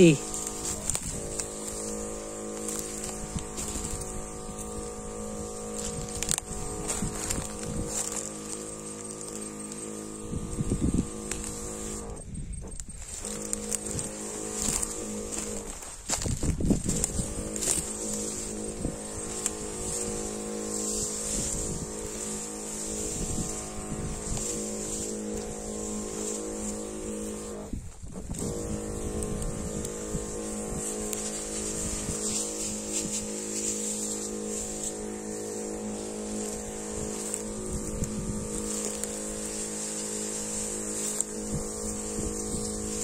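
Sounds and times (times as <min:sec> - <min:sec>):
lance spraying liquid: 0:00.0 - 0:43.0
sprayer motor running: 0:00.0 - 0:43.0.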